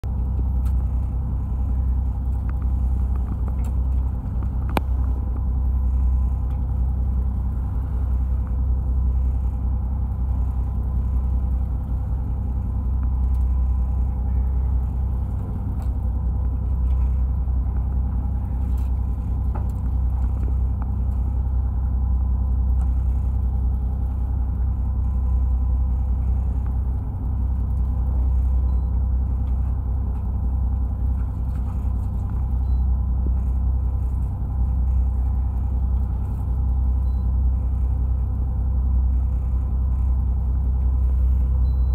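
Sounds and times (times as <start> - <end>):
boat engine rumbling: 0.0 - 41.9
faint steady hum: 0.0 - 41.9.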